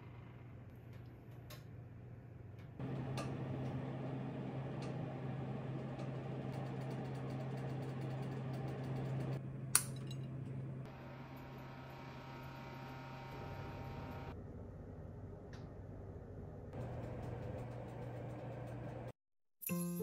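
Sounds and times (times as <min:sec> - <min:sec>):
low kitchen room hum: 0:00.0 - 0:19.1.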